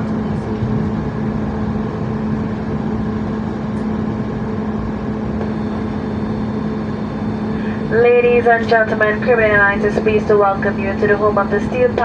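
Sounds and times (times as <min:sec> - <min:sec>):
aircraft engine and air rush: 0:00.0 - 0:12.0
low steady hum: 0:00.0 - 0:12.0.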